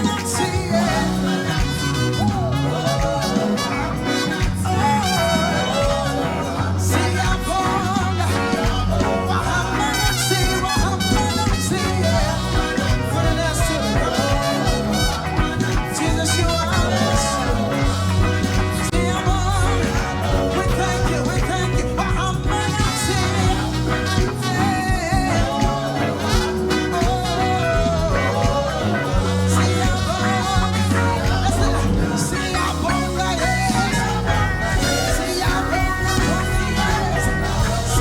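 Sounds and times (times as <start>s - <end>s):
band playing: 0.0s - 38.0s
people singing: 0.0s - 38.0s.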